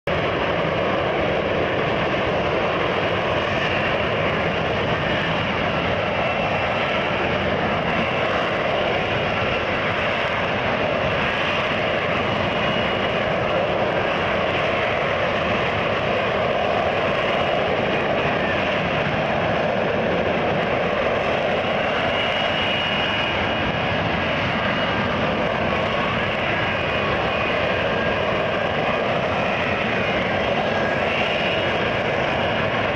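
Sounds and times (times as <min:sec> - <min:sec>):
aircraft engine noise: 0:00.0 - 0:32.9.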